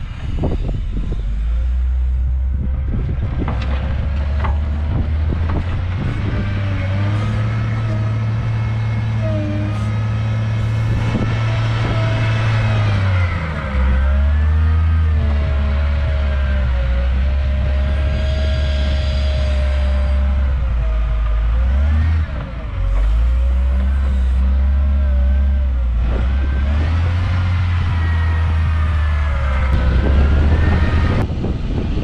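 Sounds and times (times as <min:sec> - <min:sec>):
diesel engine under load: 0:00.0 - 0:32.0
engine whine: 0:00.0 - 0:32.0.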